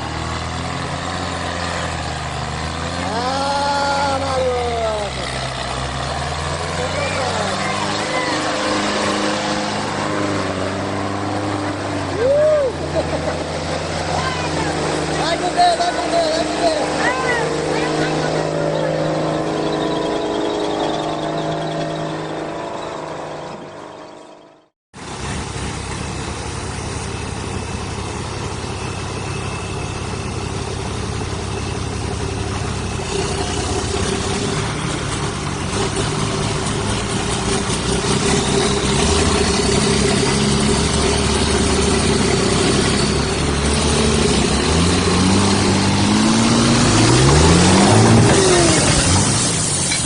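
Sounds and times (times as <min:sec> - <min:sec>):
heavy vehicle engine revving: 0:00.0 - 0:50.0.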